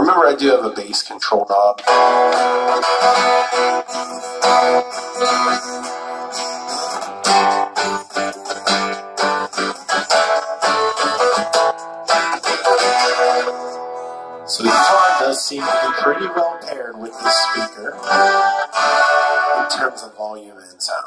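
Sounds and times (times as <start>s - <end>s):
acoustic guitar strumming chords: 1.8s - 20.4s.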